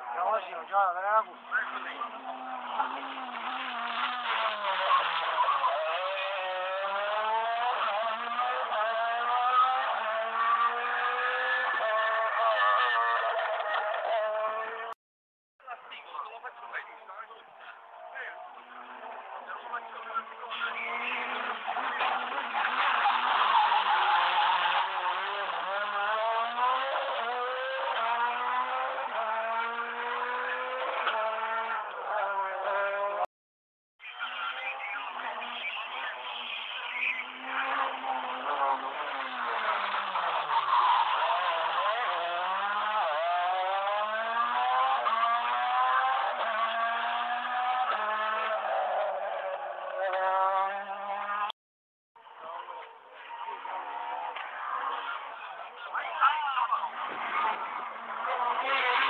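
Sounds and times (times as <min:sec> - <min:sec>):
rally car engine revving hard: 0:01.5 - 0:15.0, 0:18.3 - 0:33.3, 0:34.5 - 0:51.6, 0:56.6 - 0:59.0.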